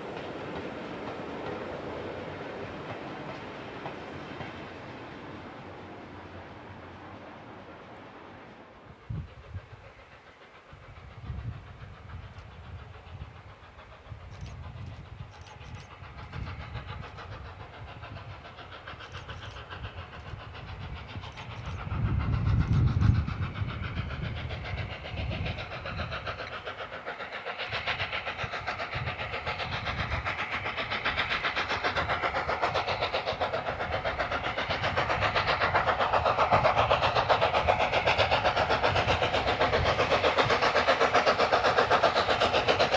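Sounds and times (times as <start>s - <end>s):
steam locomotive chugging: 0.0s - 42.9s.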